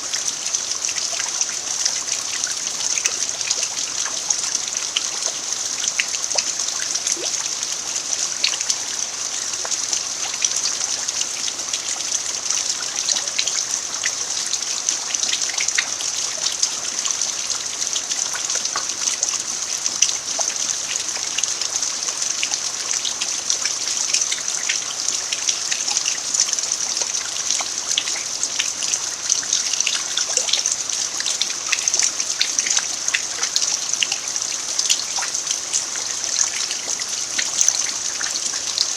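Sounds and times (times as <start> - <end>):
rain falling on dirt: 0.0 - 38.9.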